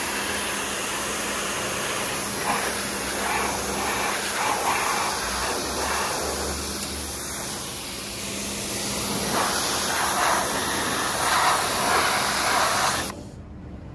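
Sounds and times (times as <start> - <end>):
pressure washer hum: 0.0 - 13.2
water jet hissing and spattering: 0.0 - 13.2.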